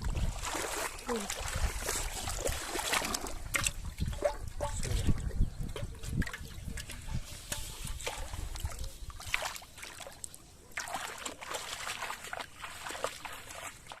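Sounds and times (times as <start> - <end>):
shallow water sloshing and trickling: 0.0 - 14.0
small water splashes: 0.0 - 14.0.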